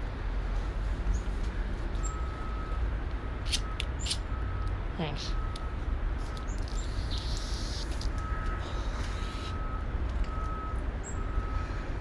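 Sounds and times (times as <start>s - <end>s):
low traffic rumble: 0.0s - 12.0s
vehicle reversing alarm beeping: 2.0s - 12.0s.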